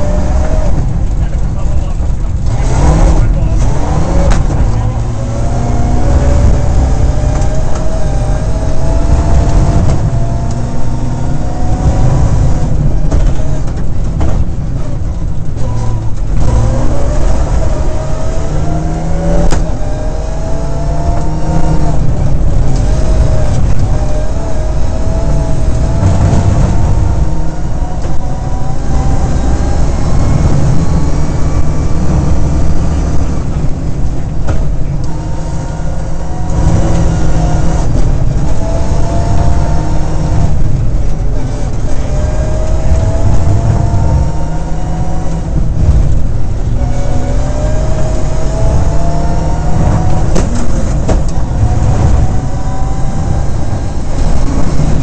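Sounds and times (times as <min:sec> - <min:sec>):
heavy low rumble: 0:00.0 - 0:55.0
rally car engine revving: 0:00.0 - 0:55.0.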